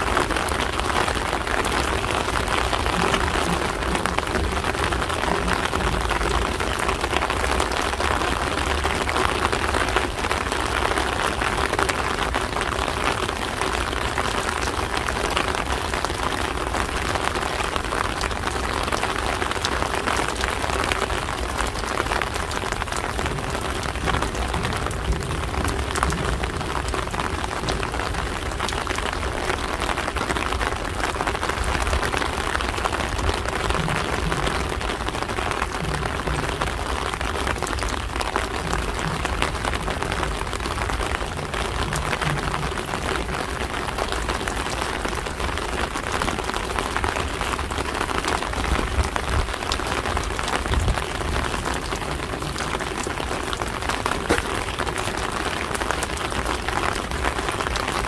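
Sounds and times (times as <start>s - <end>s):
rain pattering on surfaces: 0.0s - 58.0s.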